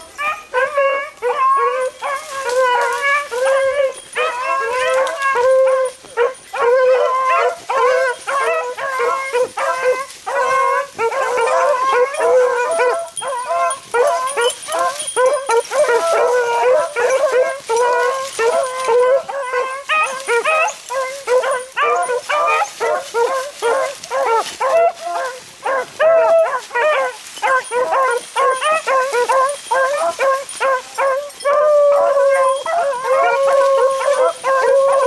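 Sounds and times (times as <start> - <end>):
hounds baying: 0.0 - 35.0.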